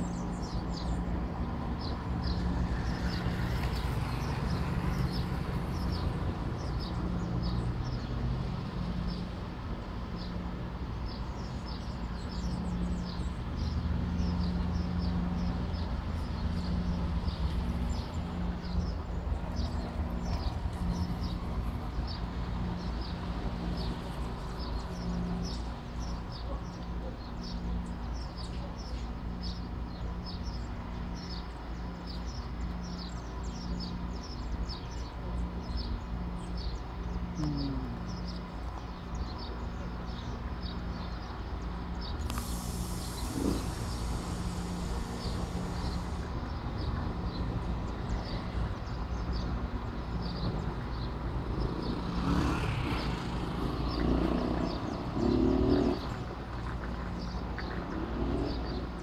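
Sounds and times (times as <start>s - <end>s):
train running hum: 0.0s - 59.0s.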